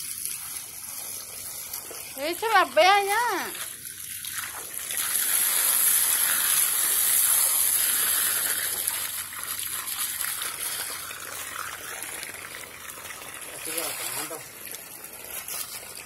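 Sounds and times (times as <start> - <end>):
water gushing from hose: 0.0 - 16.0.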